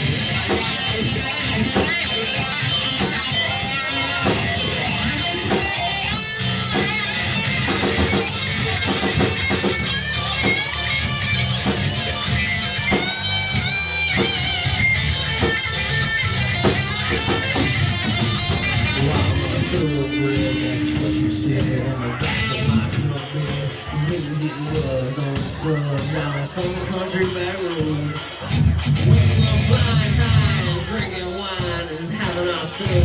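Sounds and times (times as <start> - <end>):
bass guitar: 0.0 - 33.0
drum kit: 0.0 - 33.0
electric guitar lead: 0.0 - 33.0.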